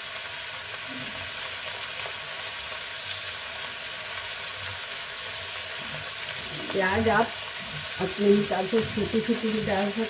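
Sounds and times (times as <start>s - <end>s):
potatoes frying in hot oil: 0.0s - 10.0s.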